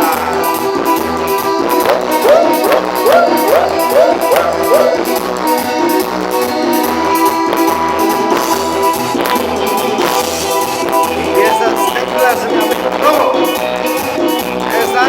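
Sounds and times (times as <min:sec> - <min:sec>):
guitar over bass beat: 0:00.0 - 0:15.0.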